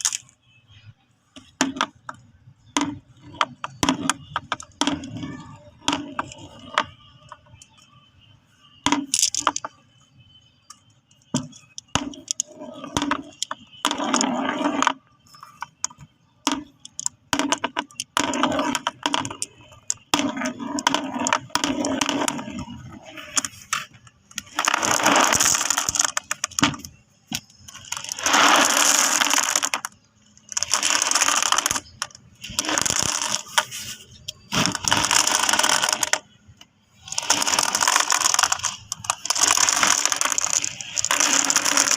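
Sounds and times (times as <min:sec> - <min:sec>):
glass marbles clicking: 0:00.0 - 0:00.3, 0:01.4 - 0:07.9, 0:08.8 - 0:09.8, 0:10.6 - 0:36.3, 0:37.0 - 0:41.9.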